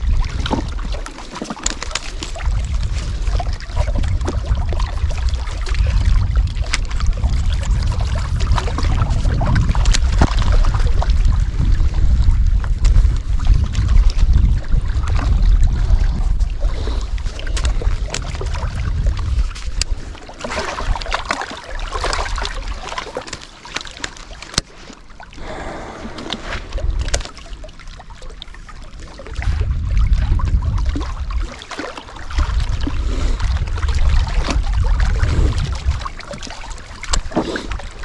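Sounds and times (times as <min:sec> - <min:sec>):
wind buffeting microphone: 0:00.0 - 0:23.2, 0:25.4 - 0:38.0
waves lapping on rocks: 0:00.0 - 0:38.0.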